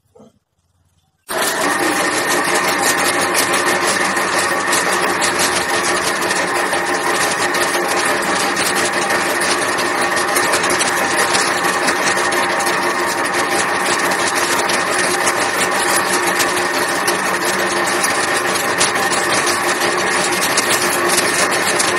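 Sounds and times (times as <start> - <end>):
clay machine motor whining: 0.7 - 21.9.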